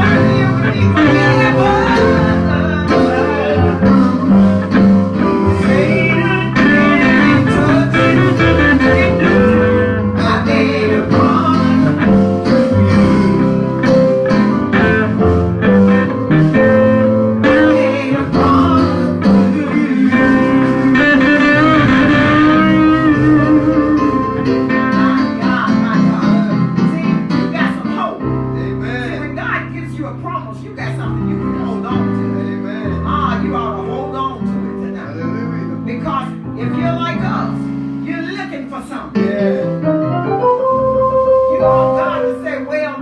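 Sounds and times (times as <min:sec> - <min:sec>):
live gospel band with guitar: 0:00.0 - 0:43.0.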